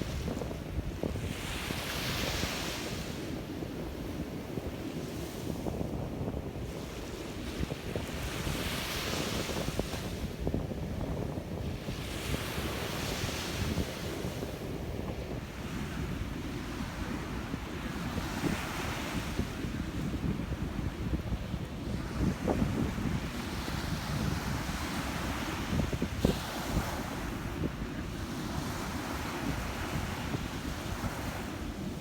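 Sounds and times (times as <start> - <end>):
ocean waves breaking on a beach: 0.0 - 32.0
wind rumble on microphone: 0.0 - 32.0.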